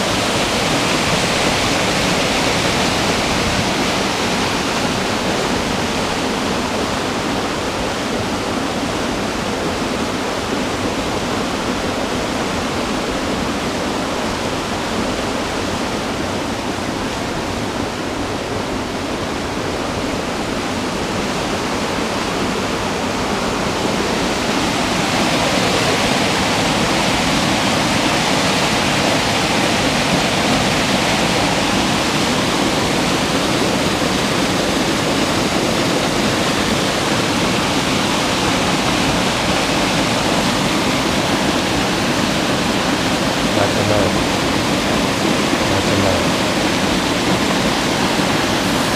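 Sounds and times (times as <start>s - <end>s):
waterfall and stream rushing: 0.0s - 48.9s.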